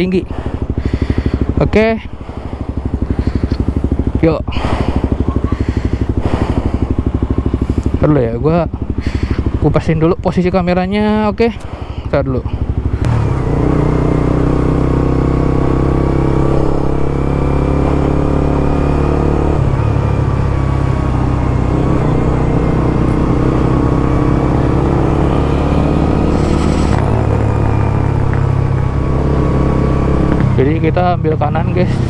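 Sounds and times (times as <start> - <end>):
motorcycle engine idling: 0.0 - 16.3, 16.9 - 32.0.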